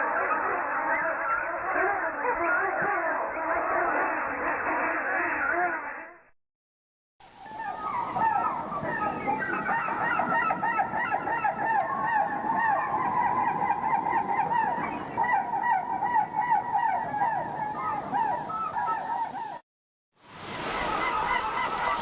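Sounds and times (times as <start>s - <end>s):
flock of birds calling: 0.0s - 6.1s, 7.4s - 19.6s, 20.4s - 22.0s.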